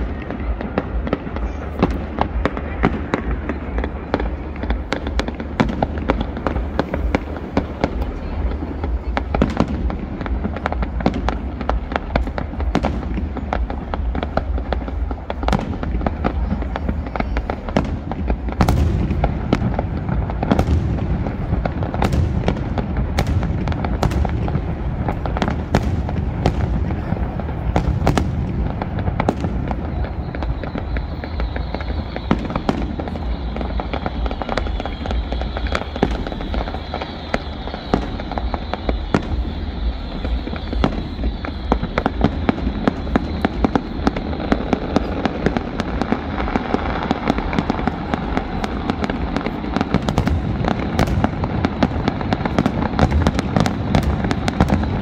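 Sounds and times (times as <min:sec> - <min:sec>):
firework bursts and cracks: 0:00.0 - 0:55.0
rumble of booms: 0:00.0 - 0:55.0.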